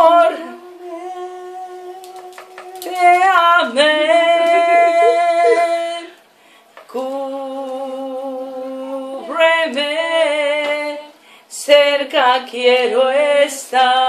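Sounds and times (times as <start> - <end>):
women singing a cappella: 0.0 - 6.2, 6.9 - 14.0.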